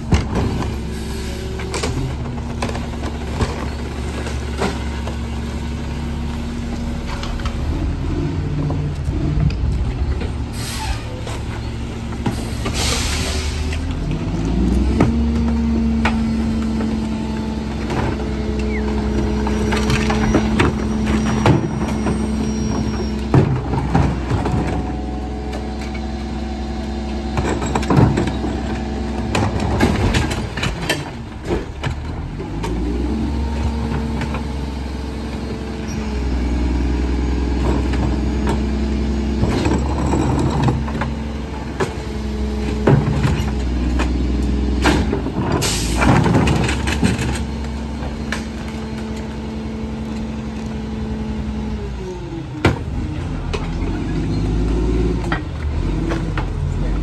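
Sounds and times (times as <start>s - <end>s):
garbage truck engine revving: 0.0s - 57.0s.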